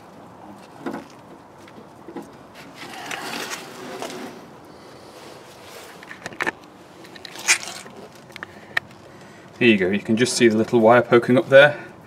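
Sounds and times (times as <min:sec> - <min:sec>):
wiring scraping and rustling: 0:00.0 - 0:11.5.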